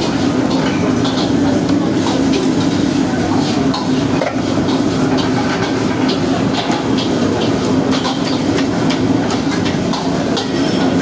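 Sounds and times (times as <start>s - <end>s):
metal ladles clanking in woks: 0.0s - 11.0s.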